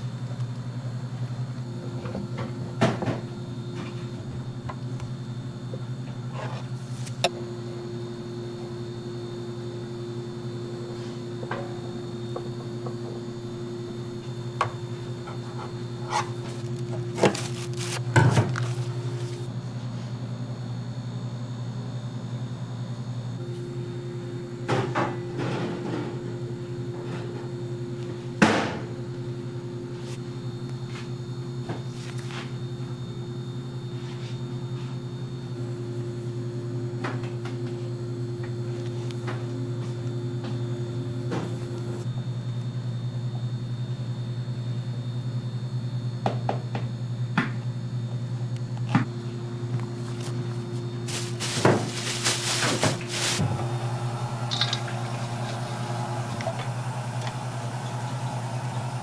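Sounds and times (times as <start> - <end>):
low hum of kitchen machinery: 0.0 - 59.0.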